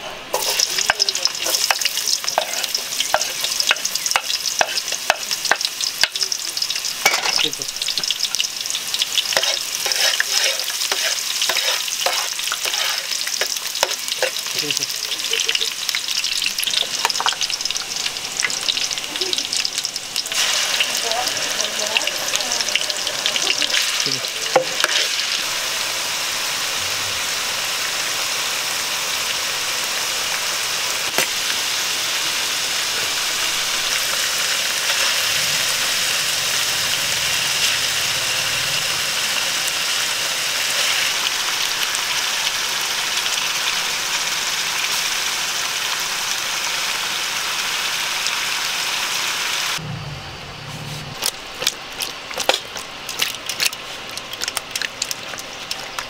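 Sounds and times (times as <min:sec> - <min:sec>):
oil sizzling in a pot: 0:00.0 - 0:49.8.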